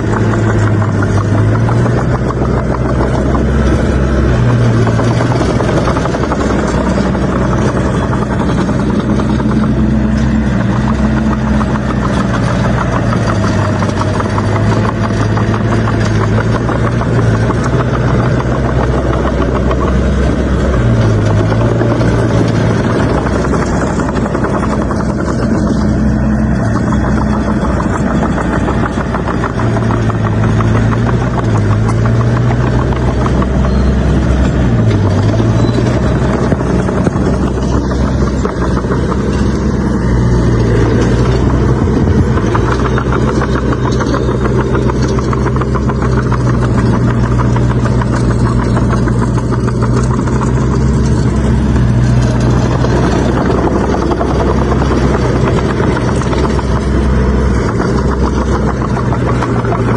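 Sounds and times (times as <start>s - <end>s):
bulldozer diesel engine: 0.0s - 59.9s
metallic clatter: 0.0s - 59.9s.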